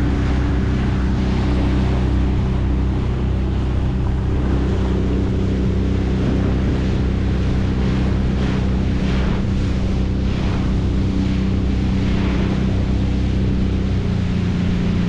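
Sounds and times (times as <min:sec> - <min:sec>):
outboard motor running: 0:00.0 - 0:15.0
water swishing against hull: 0:00.0 - 0:15.0.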